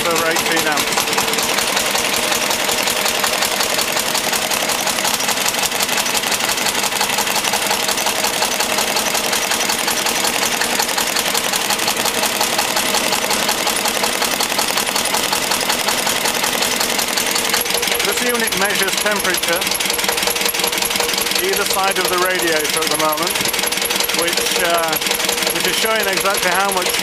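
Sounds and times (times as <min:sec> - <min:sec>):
diesel generator engine running: 0:00.0 - 0:27.0.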